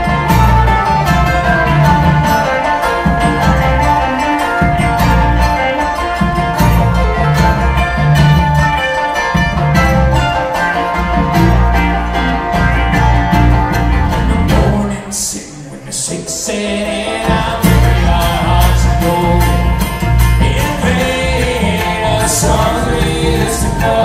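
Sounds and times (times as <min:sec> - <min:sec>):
upright bass: 0:00.0 - 0:15.1, 0:17.2 - 0:24.0
acoustic guitar: 0:00.0 - 0:24.0
banjo: 0:00.0 - 0:24.0
mandolin: 0:00.0 - 0:24.0.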